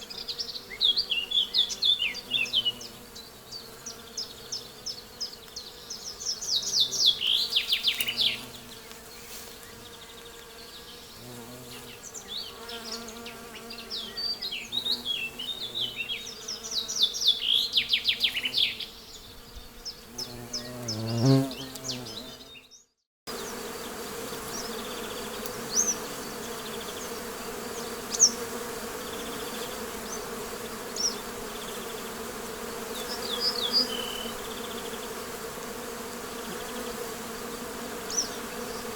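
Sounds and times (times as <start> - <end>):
bee passing close: 0.0 - 22.6, 23.3 - 38.9
bees buzzing: 0.0 - 22.6, 23.3 - 38.9.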